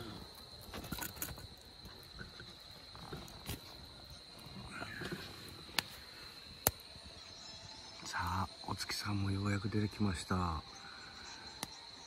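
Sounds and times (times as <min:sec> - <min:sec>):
wood fire crackling: 0:00.0 - 0:11.9
crickets trilling: 0:00.0 - 0:12.0.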